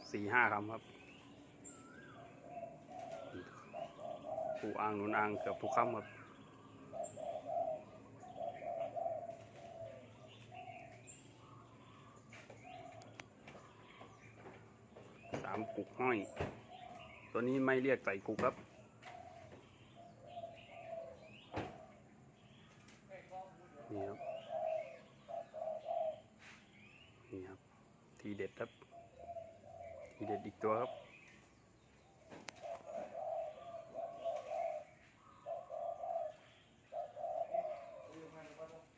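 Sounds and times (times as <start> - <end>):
dove cooing: 0.0 - 28.1, 28.8 - 38.9.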